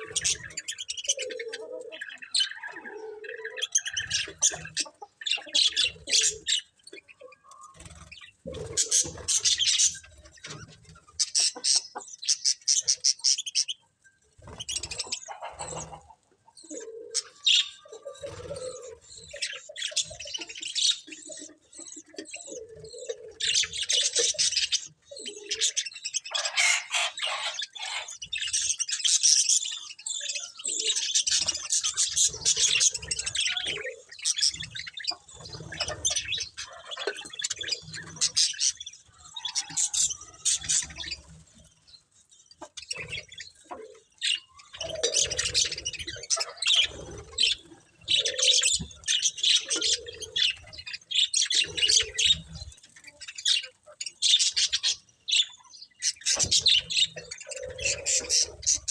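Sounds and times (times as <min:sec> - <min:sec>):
budgerigars chattering and chirping: 0:00.0 - 0:58.9.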